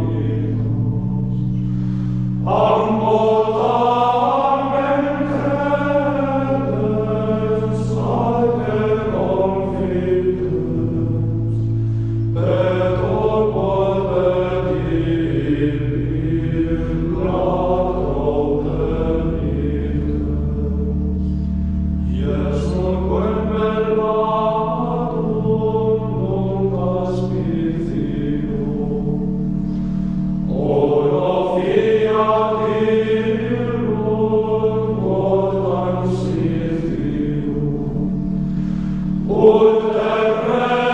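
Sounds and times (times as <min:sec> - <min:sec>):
choir chanting: 0:00.0 - 0:01.3, 0:02.4 - 0:21.1, 0:22.1 - 0:29.3, 0:30.5 - 0:38.5, 0:39.1 - 0:40.9.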